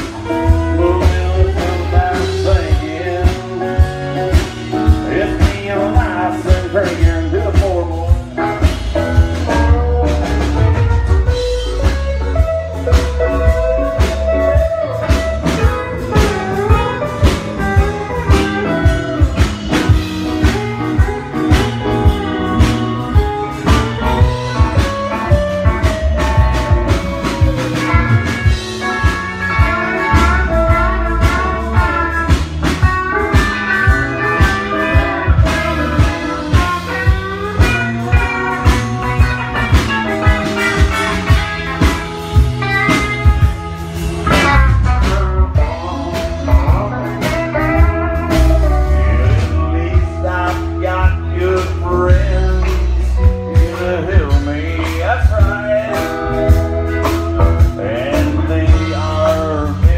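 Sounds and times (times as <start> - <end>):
drum kit beat: 0.0 - 59.9
electric guitar lead: 0.0 - 59.9.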